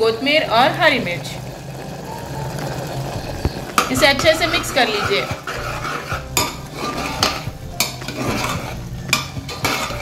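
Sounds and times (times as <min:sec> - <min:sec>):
ladle scraping metal pot: 0:01.0 - 0:10.0.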